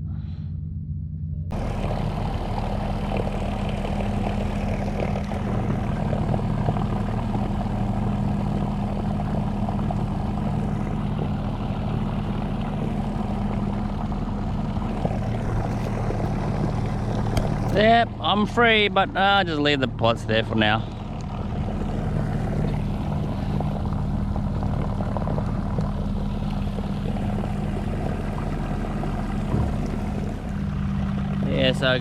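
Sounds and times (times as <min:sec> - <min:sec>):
electric boat motor running: 0:01.5 - 0:32.0
propeller churning water: 0:01.5 - 0:32.0.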